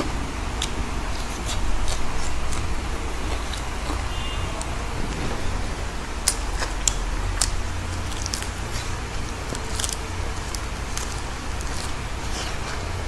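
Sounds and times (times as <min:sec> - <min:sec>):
chewing crisp lettuce: 0:00.0 - 0:13.0
steady low hum: 0:00.0 - 0:13.0.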